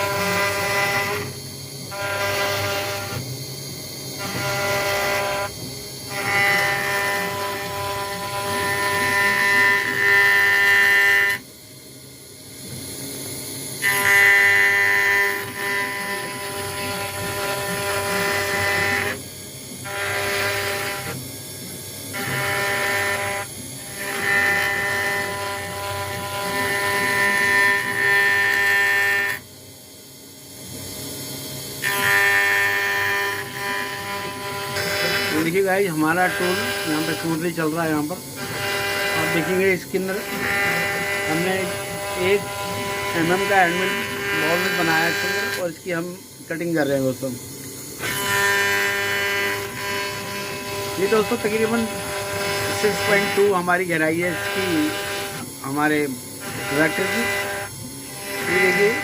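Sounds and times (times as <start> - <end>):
cnc router spindle whine: 0.0 - 59.0.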